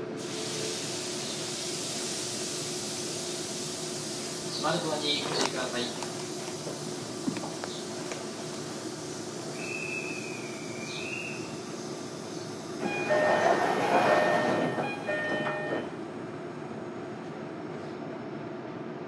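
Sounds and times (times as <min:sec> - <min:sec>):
electric train interior hum: 0:00.0 - 0:19.0.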